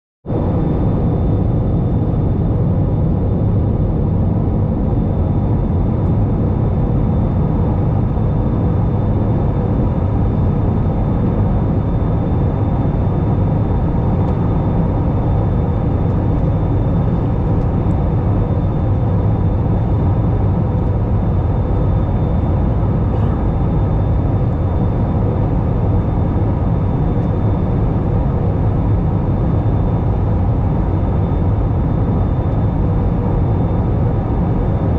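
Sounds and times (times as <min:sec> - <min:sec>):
aircraft cabin rumble: 0:00.3 - 0:34.9.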